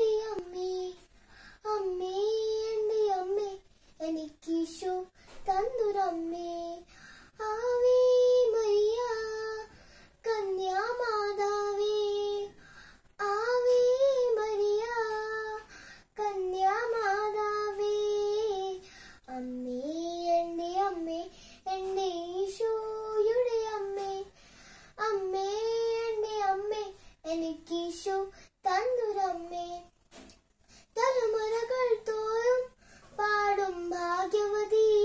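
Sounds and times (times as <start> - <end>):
girl singing unaccompanied: 0.0 - 35.0.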